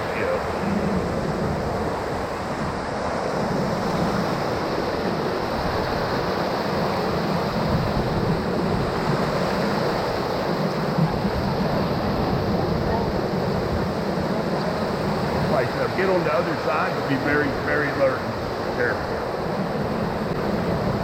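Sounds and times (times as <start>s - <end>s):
whitewater rushing through rapid: 0.0s - 21.0s.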